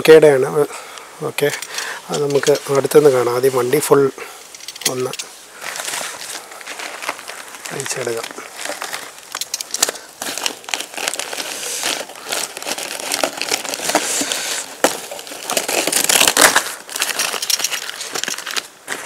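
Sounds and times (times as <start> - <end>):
packing material crinkling: 1.4 - 3.7, 4.6 - 19.0.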